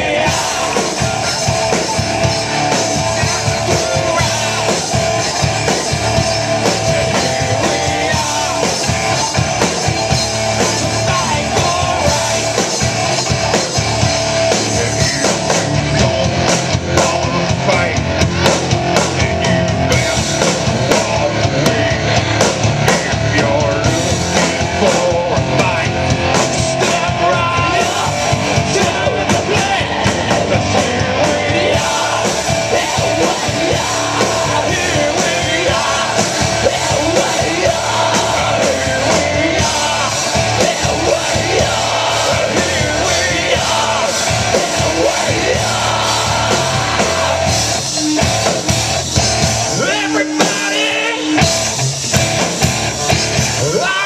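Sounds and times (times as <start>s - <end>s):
man singing: 0.0s - 48.1s, 49.7s - 51.5s, 53.5s - 54.0s
drum kit: 0.0s - 54.0s
electric guitar: 0.0s - 54.0s.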